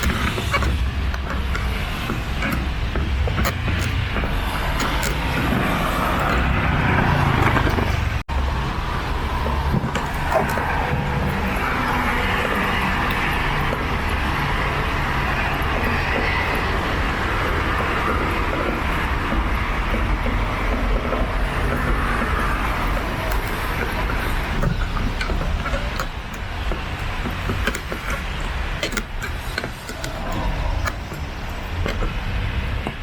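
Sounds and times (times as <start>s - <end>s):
street traffic passing: 0.0s - 33.0s.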